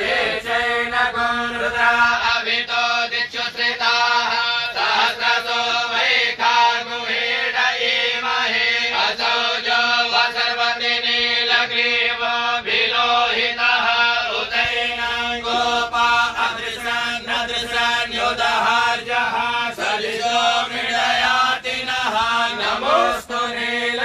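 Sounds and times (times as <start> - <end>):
mantras chanted: 0.0 - 24.0.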